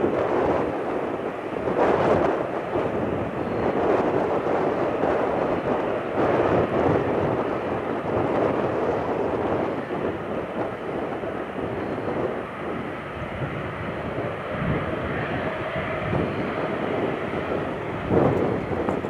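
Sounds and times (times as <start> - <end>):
jet engines drone: 0.0 - 19.0
wind buffeting microphone: 0.0 - 19.0.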